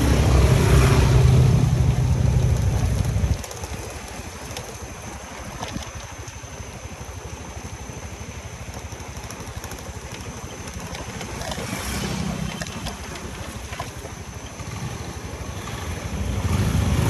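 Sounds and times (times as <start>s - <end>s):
tyre noise on pavement: 0.0s - 6.5s, 8.7s - 17.0s
motor scooter engine: 0.0s - 17.0s
wind: 0.0s - 17.0s.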